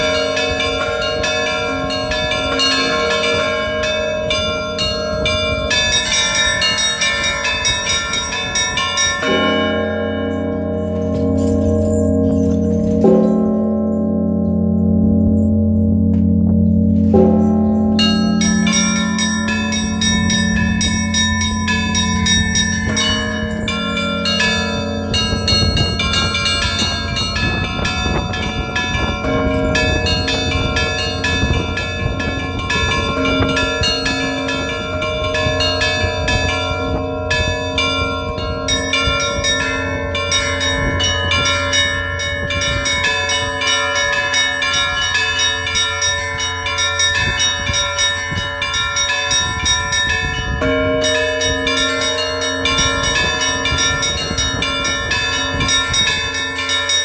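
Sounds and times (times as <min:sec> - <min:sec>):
small bells struck rapidly: 0:00.0 - 0:16.0, 0:17.2 - 0:57.0
deep bell hum: 0:00.0 - 0:57.0.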